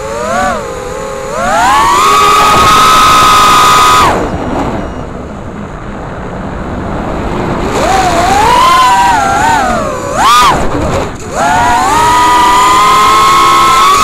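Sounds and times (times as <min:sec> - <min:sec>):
drone motors whining: 0:00.0 - 0:06.3, 0:07.5 - 0:14.0.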